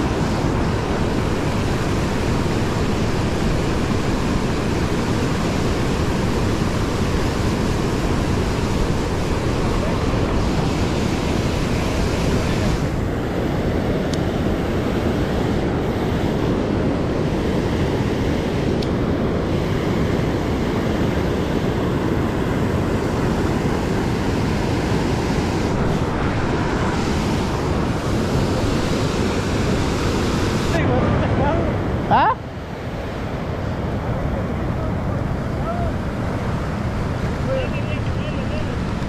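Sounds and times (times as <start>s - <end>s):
river water rushing over weir: 0.0s - 39.0s.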